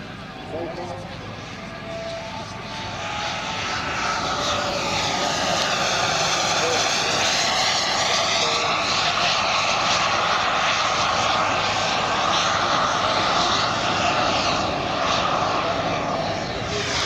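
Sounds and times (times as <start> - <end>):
model jet turbine rushing: 0.0 - 17.0.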